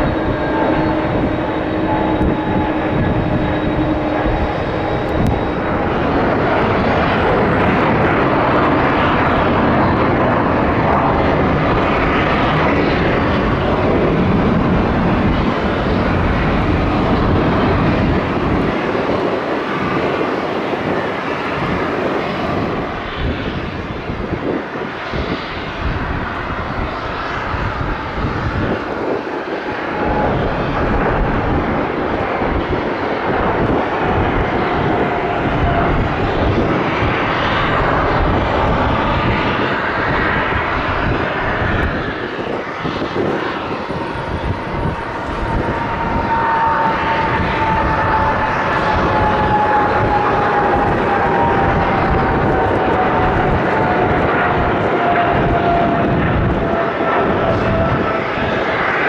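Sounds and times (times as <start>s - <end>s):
faint engine whine: 0.0s - 58.8s
jet engines roaring: 0.0s - 59.0s.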